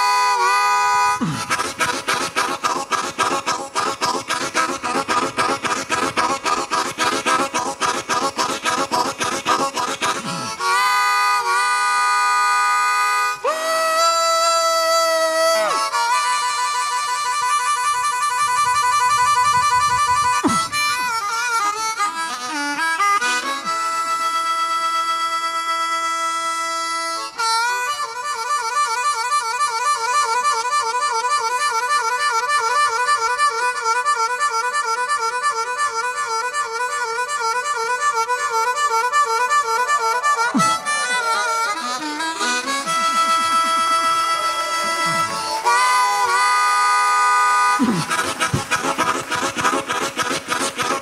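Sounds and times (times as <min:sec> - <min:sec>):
blues harmonica: 0:00.0 - 0:51.0.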